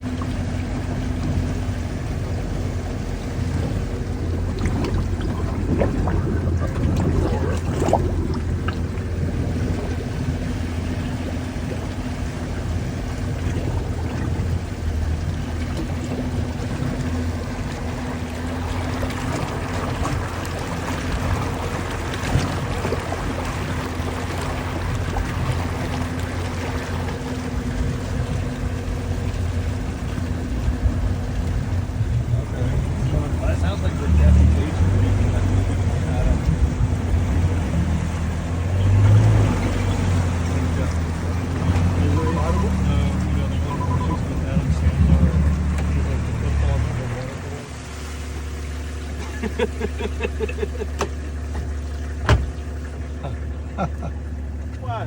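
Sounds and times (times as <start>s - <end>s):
water rushing and splashing: 0.0s - 55.0s.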